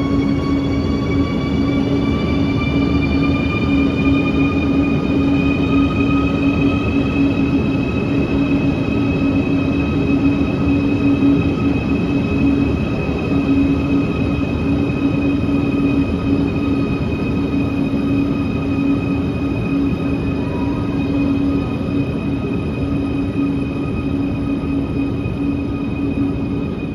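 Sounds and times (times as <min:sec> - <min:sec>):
subway train running: 0:00.0 - 0:26.9.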